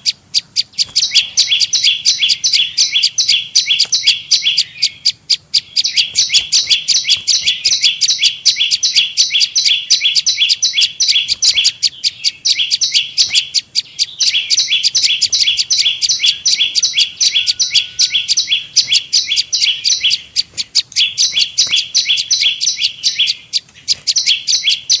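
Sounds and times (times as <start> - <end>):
bird rapid high chirps: 0.0 - 25.0.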